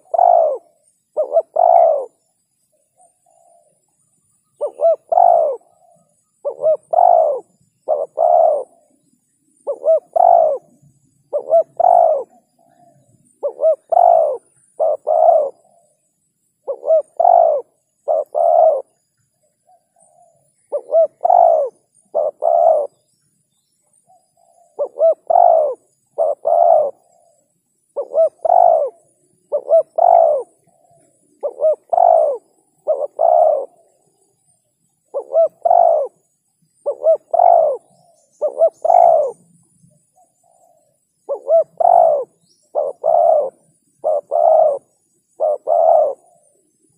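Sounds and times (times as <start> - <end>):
dove cooing: 0.0 - 19.0, 19.6 - 23.1, 24.1 - 46.9.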